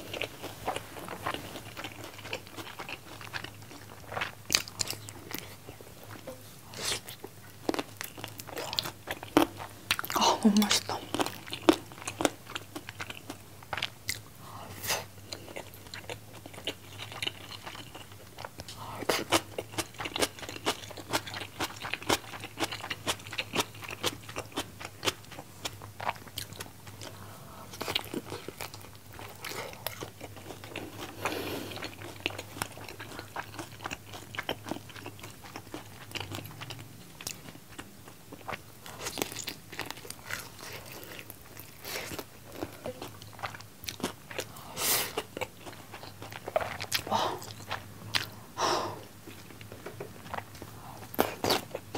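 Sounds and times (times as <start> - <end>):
chewing and biting: 0.0 - 10.2, 15.3 - 48.4, 49.3 - 51.9.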